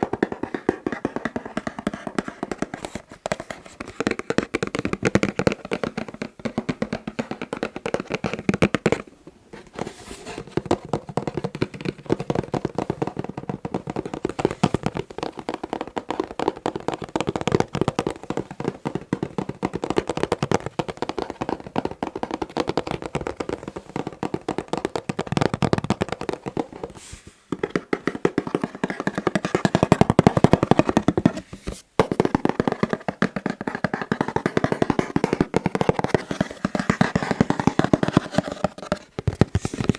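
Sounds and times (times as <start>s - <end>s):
fingers tapping on boxes: 0.0s - 39.9s.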